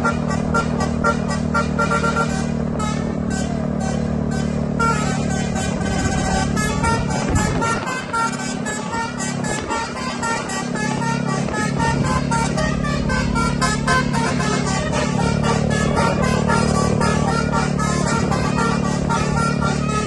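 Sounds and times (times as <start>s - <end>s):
musical bus air horn: 0.0s - 20.0s.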